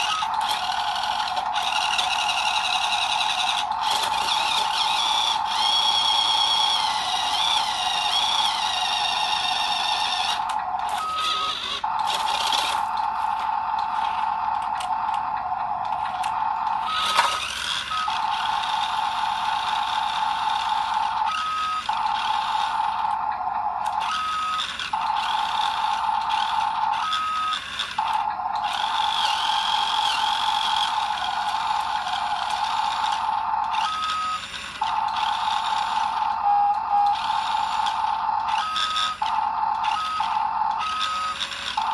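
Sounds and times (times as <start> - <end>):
electric motor whining: 0.0 - 41.9.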